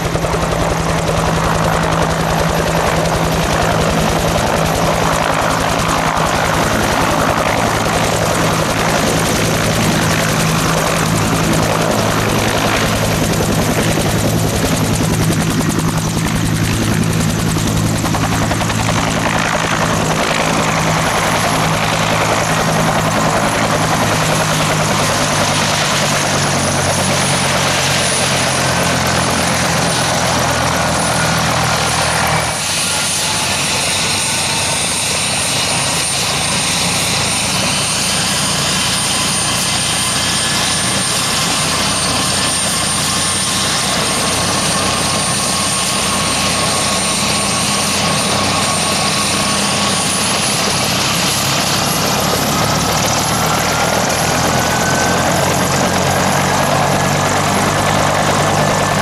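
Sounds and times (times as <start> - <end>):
helicopter rotor beating: 0.0 - 59.0
turboshaft engine whine: 0.0 - 59.0.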